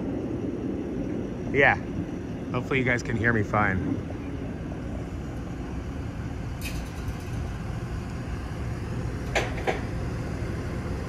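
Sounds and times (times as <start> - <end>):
crane engine droning: 0.0 - 11.0.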